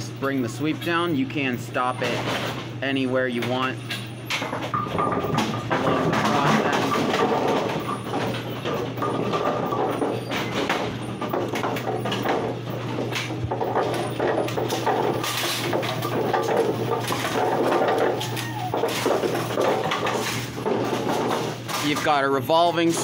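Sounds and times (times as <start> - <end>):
motor hum: 0.0 - 23.0
machine rattles and clanks: 1.8 - 23.0.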